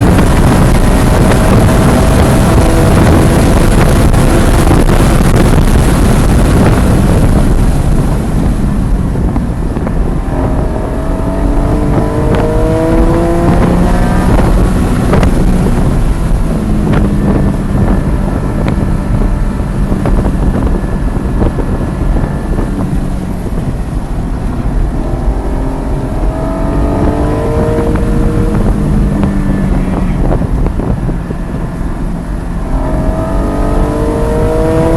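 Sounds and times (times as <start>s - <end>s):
car engine at racing speed: 0.0s - 34.9s
wind noise on microphone: 0.0s - 34.9s.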